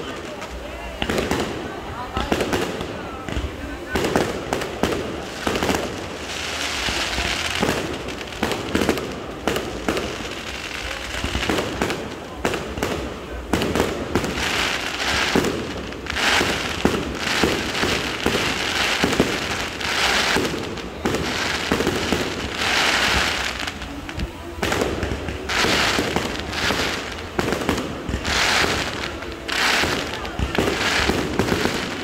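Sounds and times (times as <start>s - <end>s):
fireworks bangs: 0.0s - 32.0s
hissing crackling firework bursts: 0.0s - 32.0s.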